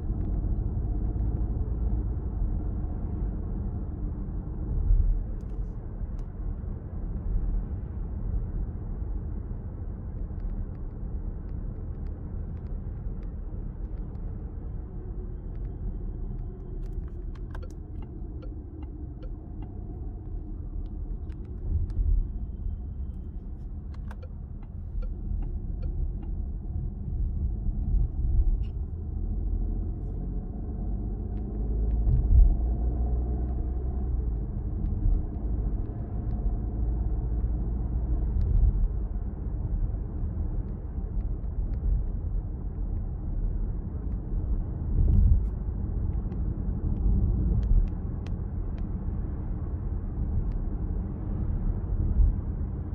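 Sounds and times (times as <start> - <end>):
road and tyre rumble: 0.0 - 52.9.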